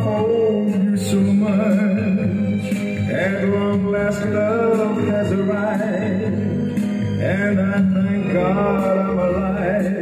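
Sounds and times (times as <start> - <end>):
music from a vinyl record: 0.0 - 10.0.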